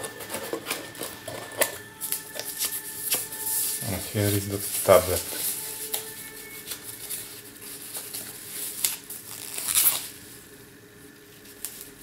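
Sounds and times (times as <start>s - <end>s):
packaging sleeve rustling and crinkling: 0.1s - 10.4s.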